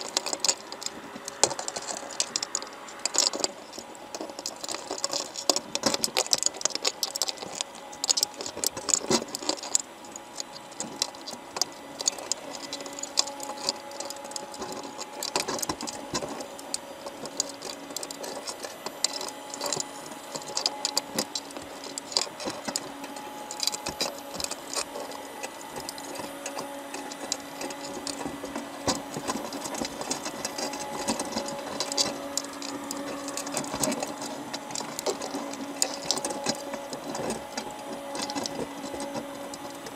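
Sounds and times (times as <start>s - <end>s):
crabs clicking and scraping on mesh: 0.0s - 39.9s
faint steady hum: 0.0s - 39.9s.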